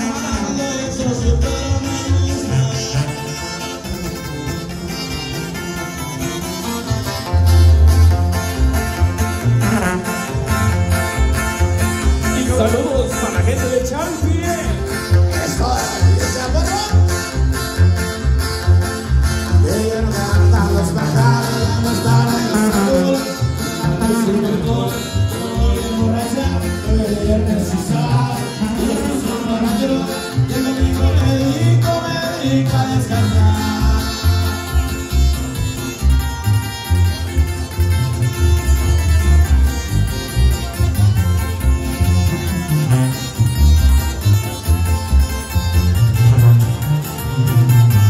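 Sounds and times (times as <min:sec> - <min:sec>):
live band music over sound system: 0:00.0 - 0:48.0.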